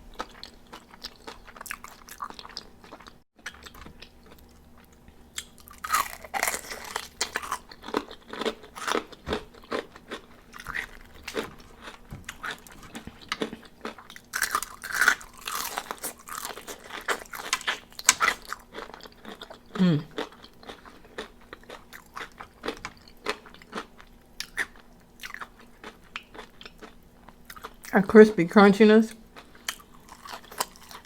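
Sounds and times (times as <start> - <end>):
crunching chicken wings: 0.2 - 27.8, 29.4 - 31.0.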